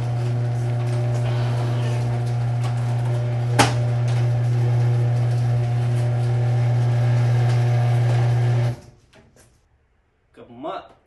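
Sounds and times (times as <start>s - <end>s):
garage door opener motor humming: 0.0s - 8.9s.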